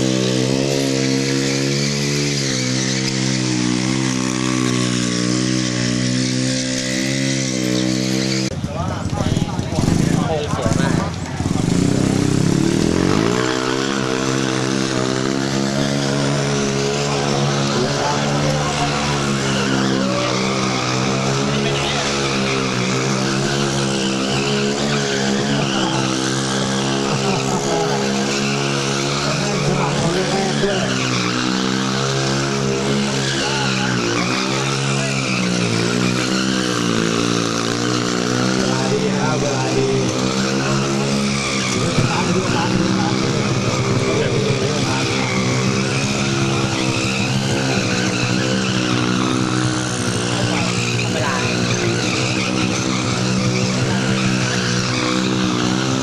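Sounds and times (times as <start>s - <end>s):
motorcycle engine revving: 0.0s - 56.0s
tyres skidding on pavement: 0.0s - 56.0s.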